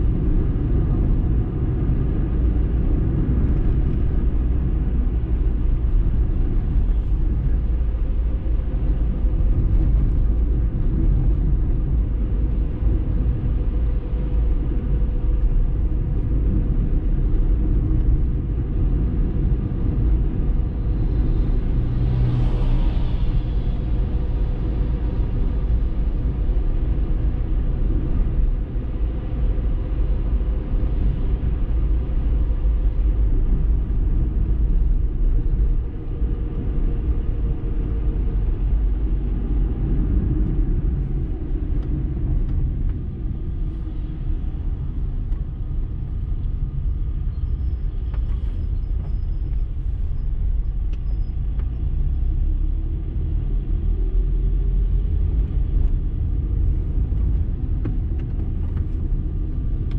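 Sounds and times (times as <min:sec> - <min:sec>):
car driving rumble inside cabin: 0:00.0 - 0:59.9.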